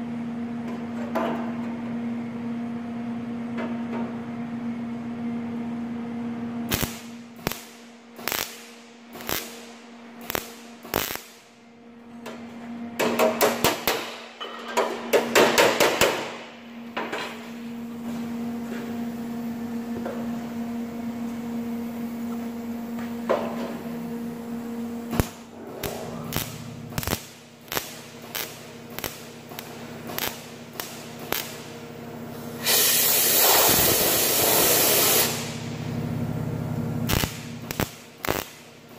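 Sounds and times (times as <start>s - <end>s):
steady hum: 1.7s - 38.9s.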